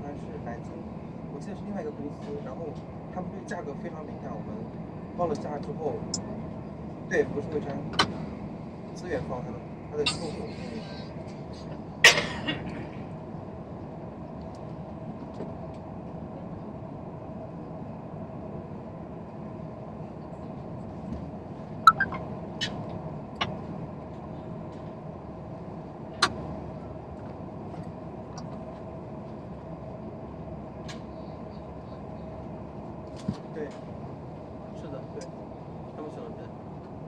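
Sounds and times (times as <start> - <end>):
train carriage hum: 0.0 - 37.0.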